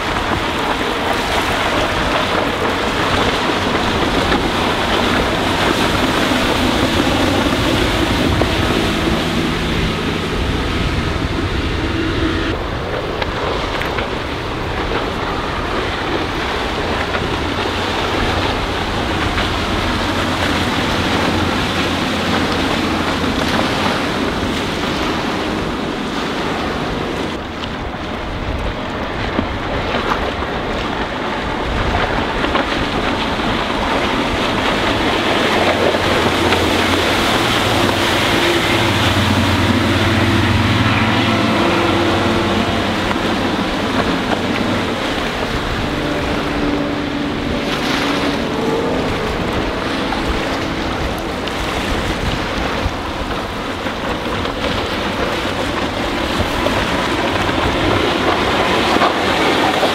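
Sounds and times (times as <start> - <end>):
speedboat engine drone: 0.0 - 59.9
wind buffeting microphone: 0.0 - 59.9.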